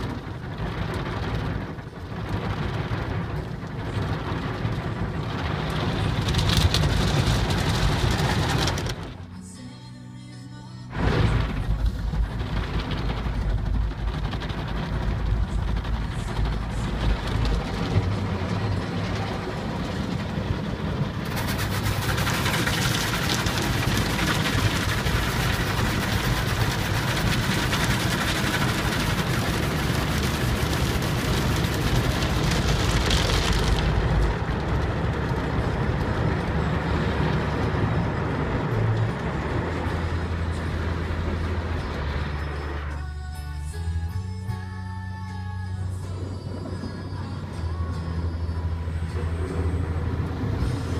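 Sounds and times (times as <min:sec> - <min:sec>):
water spray on car: 0:00.0 - 0:09.2, 0:11.0 - 0:42.8
low machinery rumble: 0:00.0 - 0:50.9.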